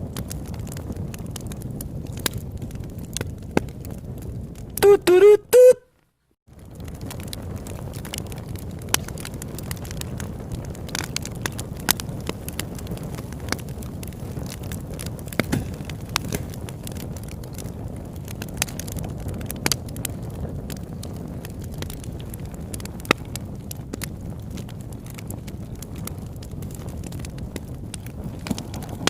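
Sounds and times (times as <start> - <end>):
campfire flames rushing: 0.0 - 4.9, 6.4 - 29.0
burning wood popping and crackling: 0.0 - 5.2, 5.9 - 29.0.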